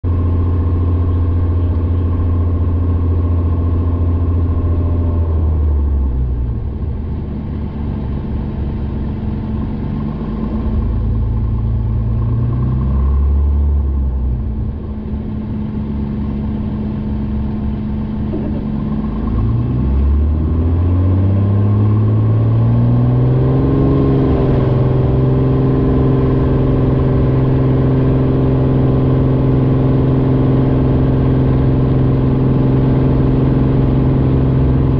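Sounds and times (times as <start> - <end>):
propeller airplane engine: 0.0 - 34.9.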